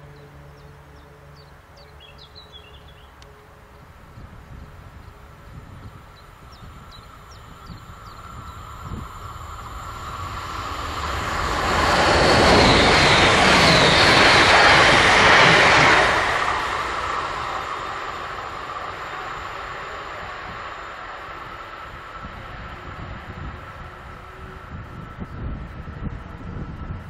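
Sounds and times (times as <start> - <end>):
high thin train whine: 0.0 - 27.0
train wheels rumbling on rails: 3.1 - 27.0.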